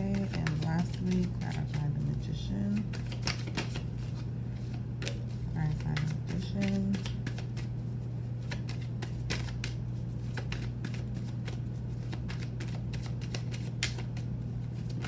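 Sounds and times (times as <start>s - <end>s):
cards being shuffled: 0.0s - 15.0s
steady low hum: 0.0s - 15.0s.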